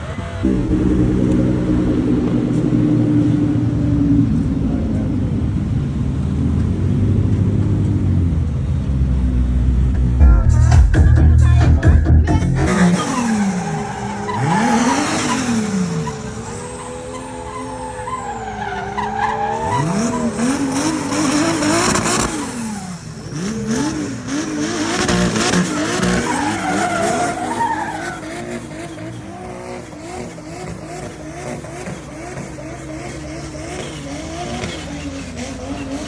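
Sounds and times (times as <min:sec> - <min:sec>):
car engines revving: 0:00.0 - 0:10.6, 0:11.4 - 0:36.0.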